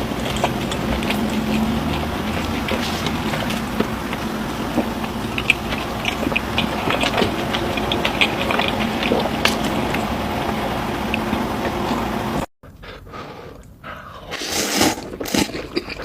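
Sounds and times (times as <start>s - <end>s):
chewing with crisp crunches: 0.0s - 16.0s
steady background hum: 0.0s - 16.0s.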